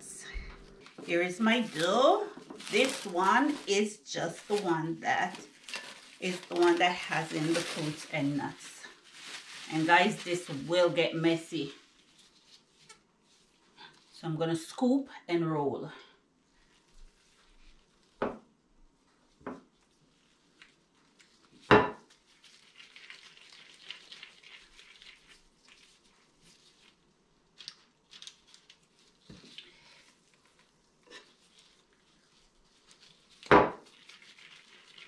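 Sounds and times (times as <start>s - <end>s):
hands rolling dough rustling: 0.0s - 14.2s, 16.5s - 35.0s.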